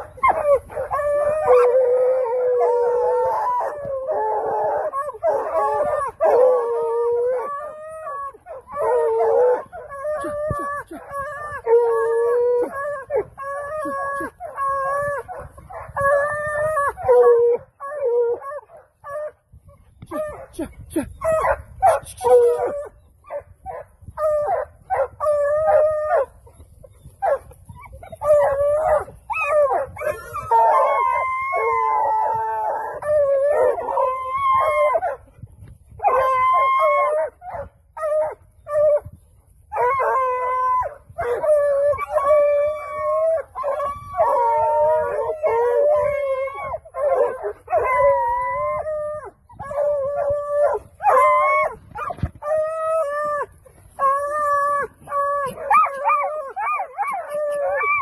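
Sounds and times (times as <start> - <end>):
dogs baying and howling: 0.0 - 58.0.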